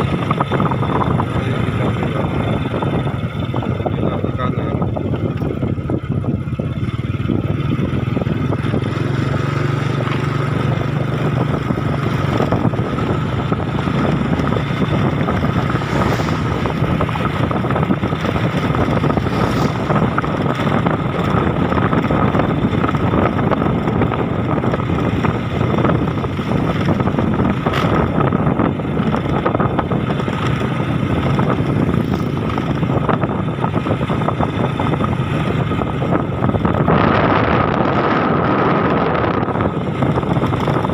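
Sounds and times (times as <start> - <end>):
vehicle engine running: 0.0 - 40.9
wind noise on microphone: 0.0 - 40.9.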